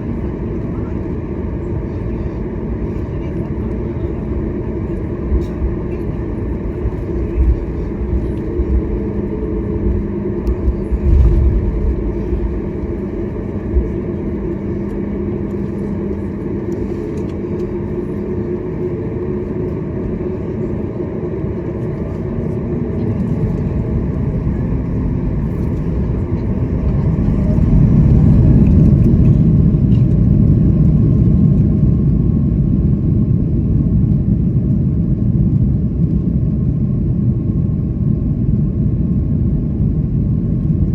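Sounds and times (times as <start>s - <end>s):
airliner rumble: 0.0s - 40.9s.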